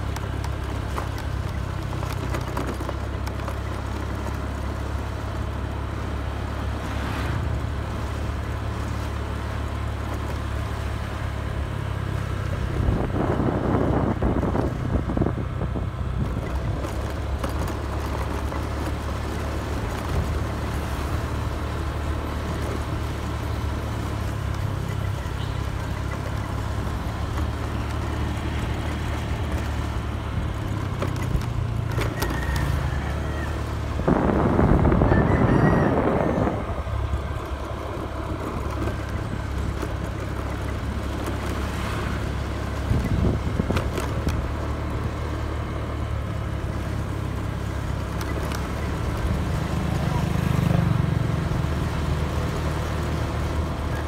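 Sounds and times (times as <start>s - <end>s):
vehicle rumbling along road: 0.0s - 54.0s.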